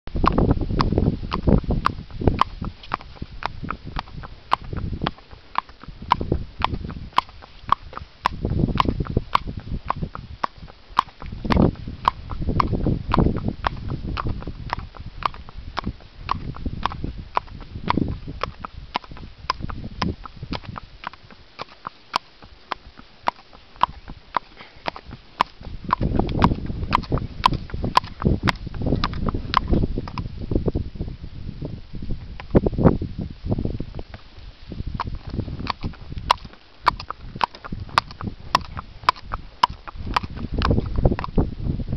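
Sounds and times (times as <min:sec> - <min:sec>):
low rumbles: 0:00.1 - 0:21.6, 0:22.5 - 0:41.9
hooves clip-clopping on concrete: 0:00.2 - 0:30.3, 0:32.2 - 0:32.7, 0:33.7 - 0:41.4.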